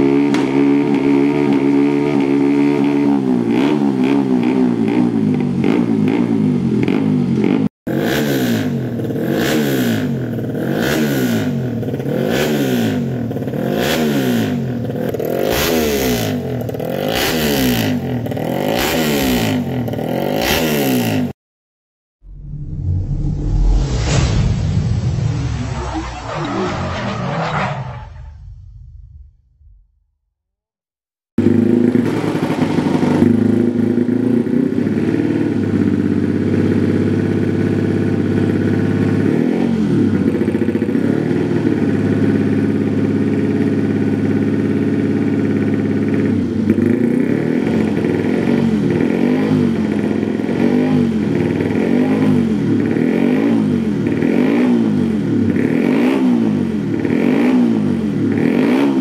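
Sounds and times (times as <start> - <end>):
motorcycle engine idling and revving: 0.0 - 21.4, 31.4 - 59.0.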